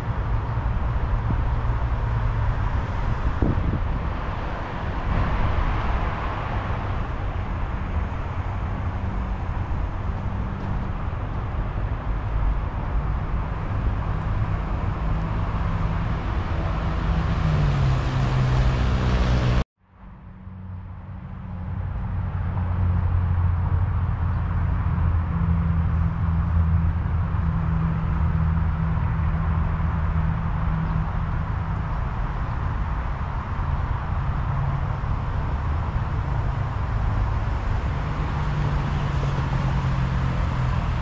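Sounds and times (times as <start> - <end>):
road traffic hum: 0.0 - 41.0.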